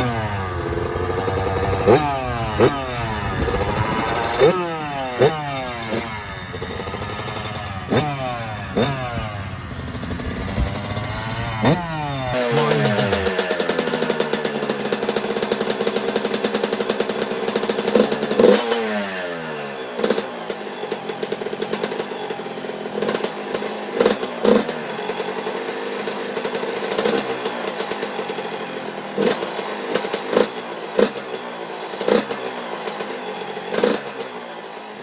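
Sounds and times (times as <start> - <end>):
dirt bike engine revving and idling: 0.0 - 35.0.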